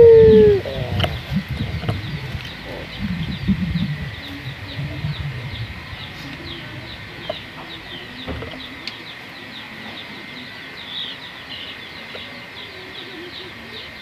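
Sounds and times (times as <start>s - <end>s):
doves cooing: 0.0s - 14.0s
small birds chirping: 0.0s - 14.0s.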